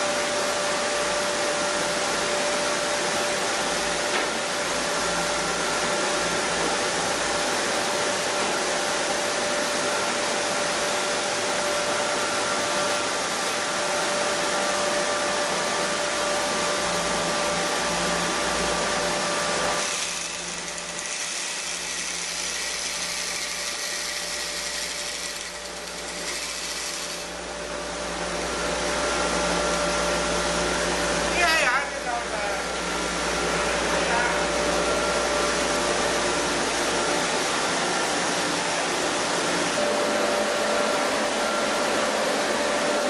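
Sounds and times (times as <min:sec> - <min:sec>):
constant machine whine: 0:00.0 - 0:43.0.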